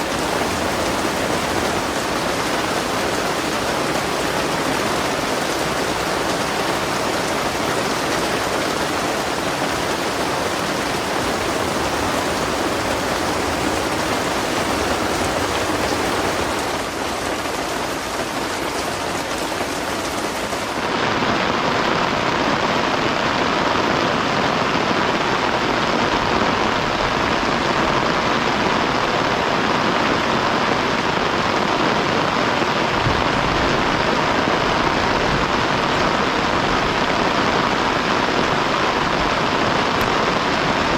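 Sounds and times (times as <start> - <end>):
heavy rain downpour: 0.0 - 40.9.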